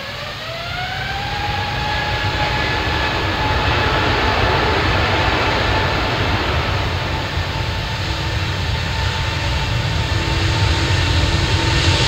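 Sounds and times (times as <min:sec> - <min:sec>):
faint engine whine: 0:00.0 - 0:12.0
jet engines roaring: 0:00.0 - 0:12.0.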